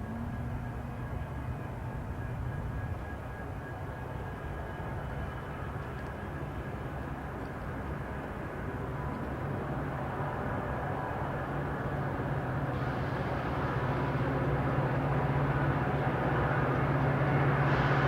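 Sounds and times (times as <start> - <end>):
diesel locomotive engine drone: 0.0 - 18.0
rail and wheel noise: 0.0 - 18.0.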